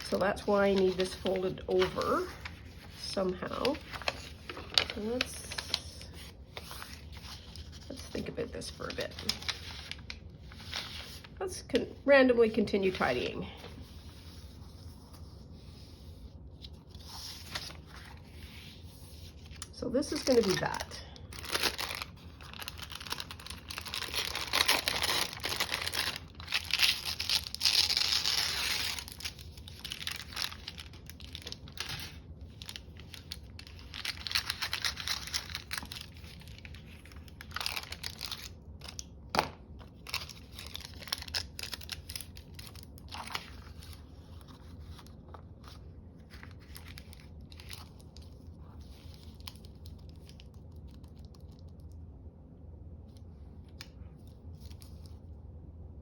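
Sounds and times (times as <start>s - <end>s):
paper rustling and crinkling: 0.0s - 11.8s, 12.8s - 51.8s.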